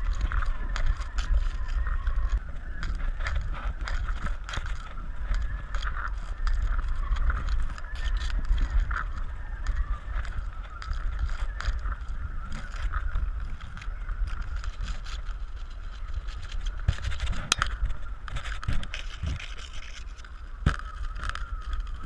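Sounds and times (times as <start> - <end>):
wavering whistle: 0.0 - 22.0
wind buffeting microphone: 0.0 - 22.0.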